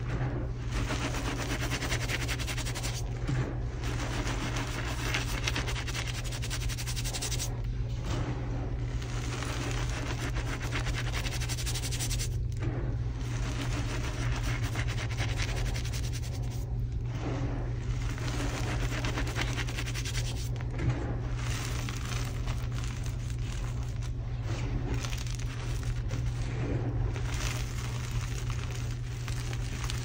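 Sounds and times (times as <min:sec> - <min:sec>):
hands crunching chalk powder: 0:00.7 - 0:03.1, 0:03.8 - 0:07.6, 0:09.0 - 0:12.4, 0:13.3 - 0:16.7, 0:17.9 - 0:20.6, 0:21.4 - 0:30.0.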